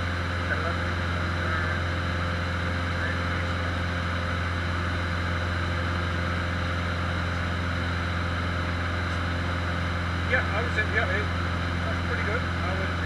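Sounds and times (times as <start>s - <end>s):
airplane engine and propeller droning: 0.0s - 13.0s.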